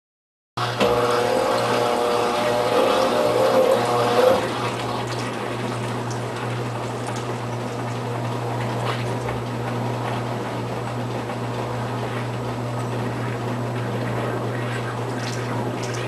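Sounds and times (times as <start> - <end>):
washing machine water sloshing: 0.6 - 16.0.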